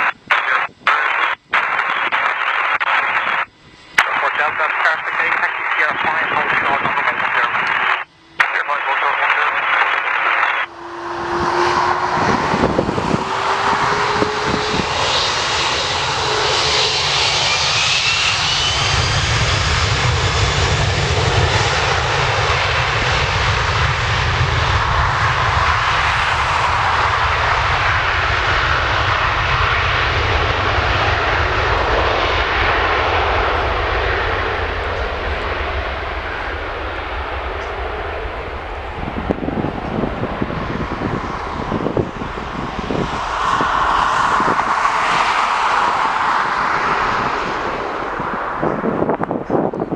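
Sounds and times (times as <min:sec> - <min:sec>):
airliner engines running: 0:00.0 - 0:49.9.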